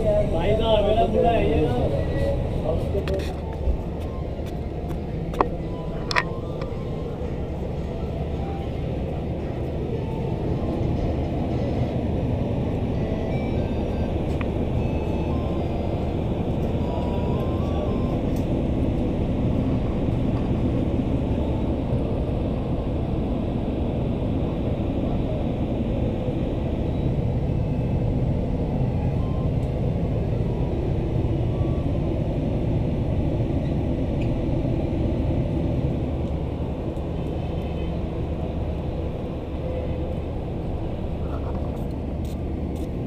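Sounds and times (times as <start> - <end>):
passenger train rumble: 0.0 - 43.0.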